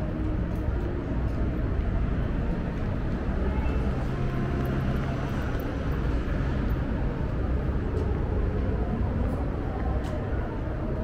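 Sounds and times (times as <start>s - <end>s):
faint hum of engines: 0.0s - 11.0s
low rumble of city traffic: 0.0s - 11.0s.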